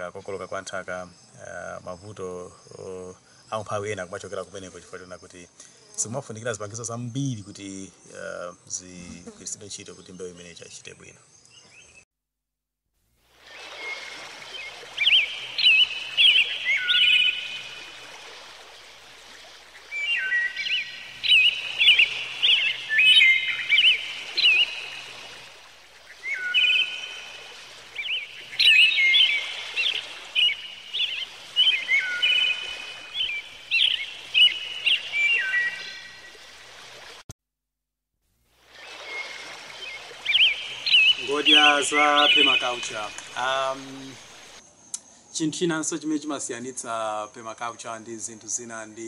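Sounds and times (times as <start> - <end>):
steady background hiss: 0.0 - 11.9, 13.2 - 37.2, 38.4 - 49.0
songbird singing: 0.0 - 12.1, 13.4 - 37.1, 38.7 - 49.0.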